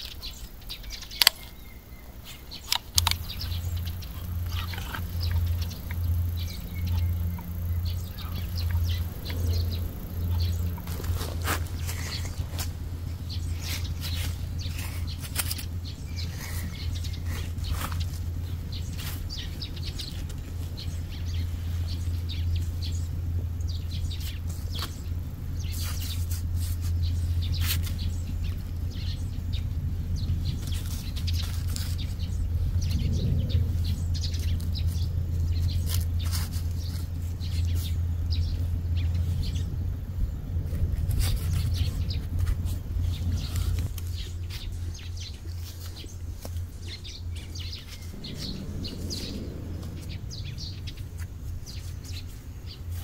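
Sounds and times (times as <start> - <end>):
small birds chirping: 0.0 - 53.0
steady low hum: 0.0 - 53.0.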